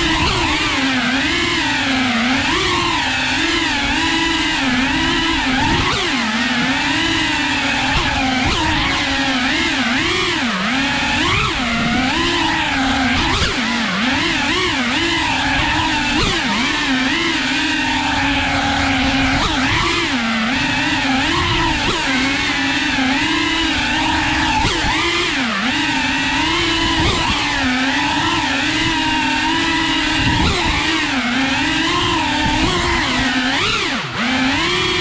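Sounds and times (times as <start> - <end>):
quadcopter propellers whirring: 0.0 - 35.0.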